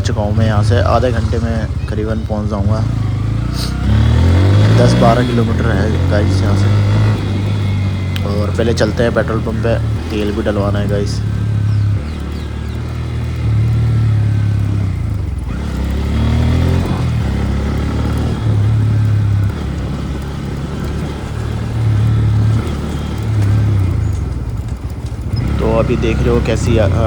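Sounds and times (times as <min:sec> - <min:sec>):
motorcycle engine running: 0:00.0 - 0:27.0
motorcycle wheel and chain noises: 0:00.0 - 0:27.0
wind and road noise: 0:00.0 - 0:27.0.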